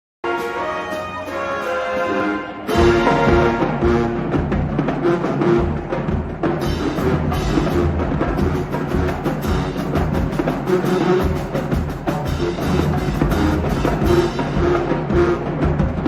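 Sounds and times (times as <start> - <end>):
music with heavy drums: 2.7 - 16.0.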